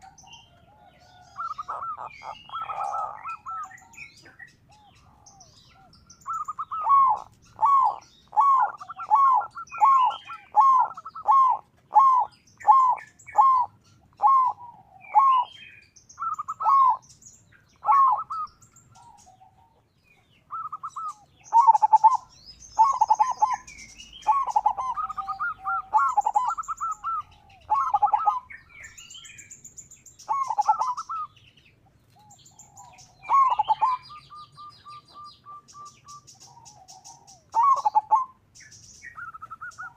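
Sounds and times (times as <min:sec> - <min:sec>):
dove cooing: 0:00.0 - 0:29.4, 0:30.2 - 0:31.4, 0:32.0 - 0:39.9.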